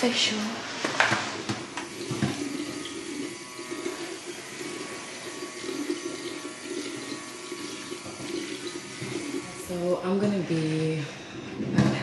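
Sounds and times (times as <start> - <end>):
electric cleansing brush humming: 1.2 - 11.0.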